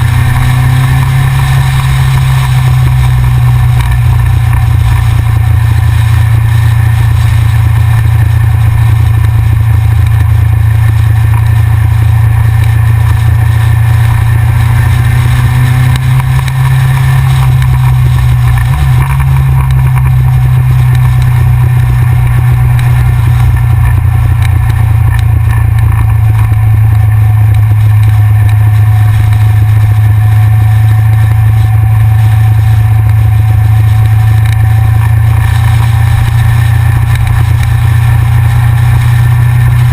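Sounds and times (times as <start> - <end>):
motorcycle engine cruising: 0.0 - 39.9
wind rush on camera: 0.0 - 39.9.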